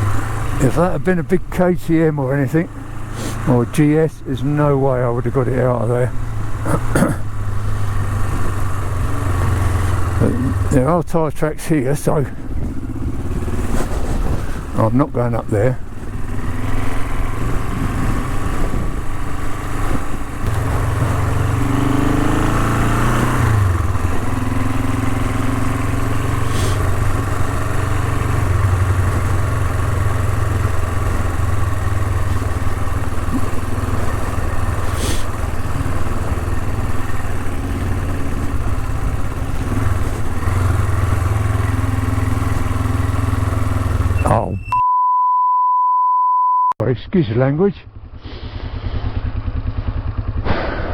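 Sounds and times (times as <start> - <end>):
motorcycle engine revving: 0.0 - 10.9, 12.2 - 44.6, 47.9 - 50.9.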